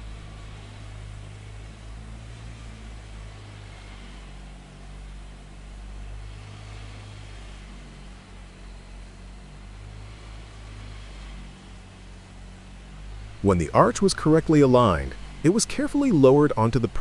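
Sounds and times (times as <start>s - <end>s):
constant hiss: 0.0s - 17.0s
low engine-like drone: 0.0s - 17.0s.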